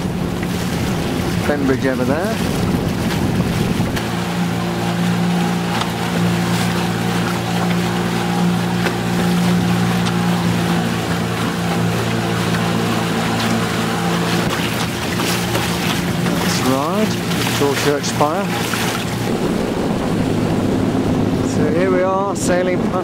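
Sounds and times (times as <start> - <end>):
boat engine humming: 0.0 - 23.0
water noise: 0.0 - 23.0
wind: 0.0 - 23.0.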